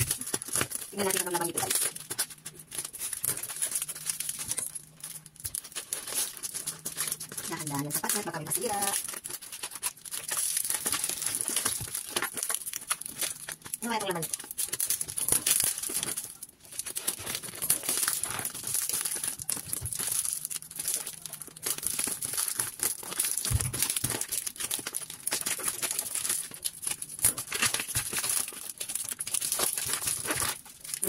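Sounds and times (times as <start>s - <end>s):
packaging crinkling and rustling: 0.0s - 31.0s
packaging tearing: 0.0s - 31.0s.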